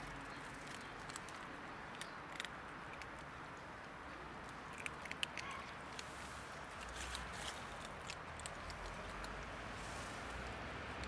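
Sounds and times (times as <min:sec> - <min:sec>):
cats crunching dry kibble: 0:00.0 - 0:11.0
steady outdoor hiss: 0:00.0 - 0:11.0.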